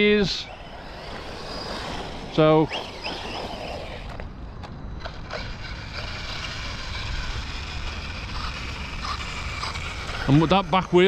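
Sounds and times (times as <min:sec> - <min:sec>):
faint steady whine: 0:00.0 - 0:11.0
rc car running: 0:00.0 - 0:11.0
sharp drivetrain clicks: 0:00.2 - 0:11.0.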